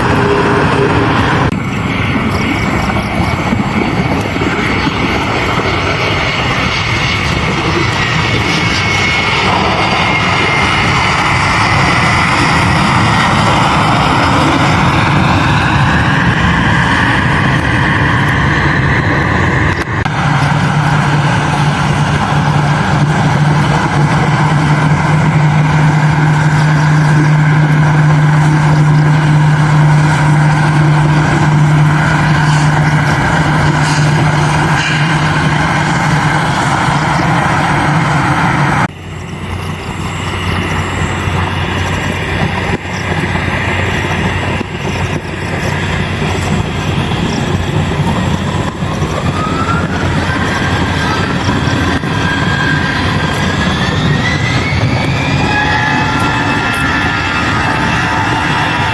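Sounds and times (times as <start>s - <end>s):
loud engine hum and whine: 0.0s - 58.9s
lower steady engine hum: 0.0s - 58.9s.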